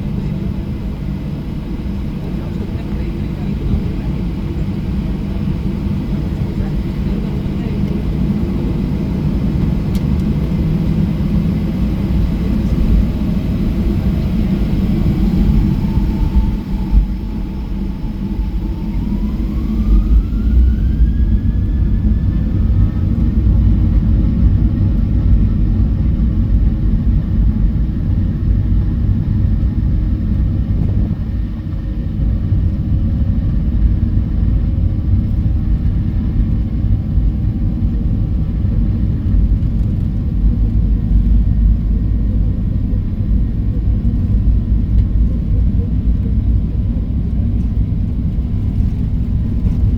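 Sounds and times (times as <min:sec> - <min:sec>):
aircraft cabin engine rumble: 0:00.0 - 0:49.9
faint engine whine: 0:00.0 - 0:49.9.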